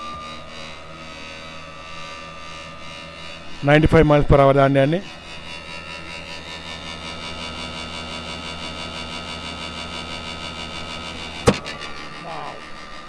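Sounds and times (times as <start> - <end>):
machine motor hum and whine: 0.0 - 13.0.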